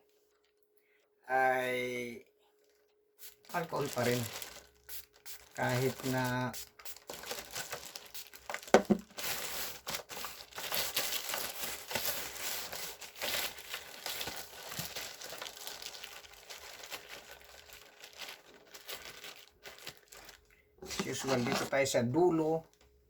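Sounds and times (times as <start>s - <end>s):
plastic packaging crinkling: 2.6s - 21.9s.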